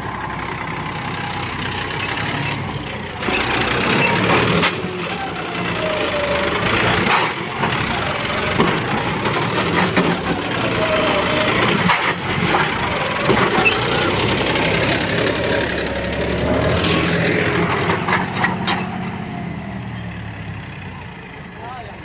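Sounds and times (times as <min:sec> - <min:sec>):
tractor engine under heavy load: 0:00.0 - 0:22.0
voices: 0:00.0 - 0:22.0.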